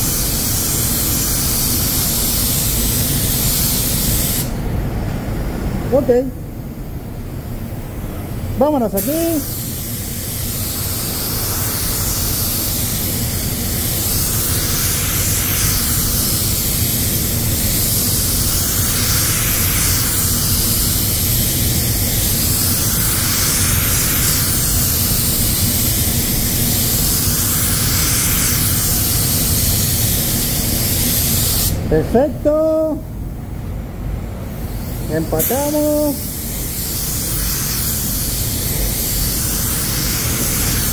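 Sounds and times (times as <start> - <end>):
paint spray gun hissing: 0.0 - 4.5, 8.9 - 31.8, 34.6 - 40.9.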